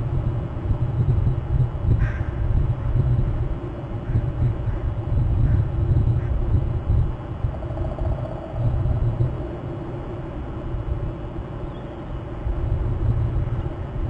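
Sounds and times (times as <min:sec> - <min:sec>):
faint steady hum: 0:00.0 - 0:14.0
low uneven rumble: 0:00.0 - 0:14.0.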